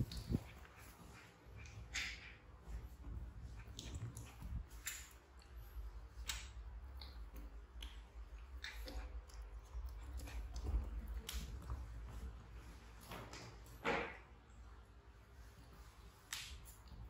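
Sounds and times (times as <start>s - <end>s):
clicks and scuffs on tiled floor: 0.0s - 14.3s, 15.4s - 17.0s.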